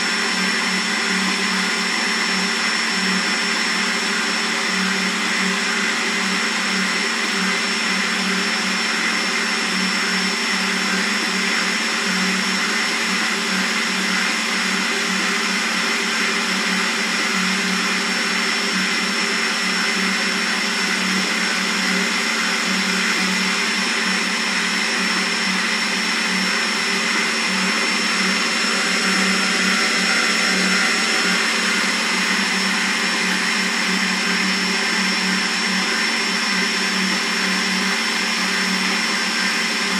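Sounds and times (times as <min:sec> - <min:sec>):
stand mixer motor humming: 0:00.0 - 0:39.9.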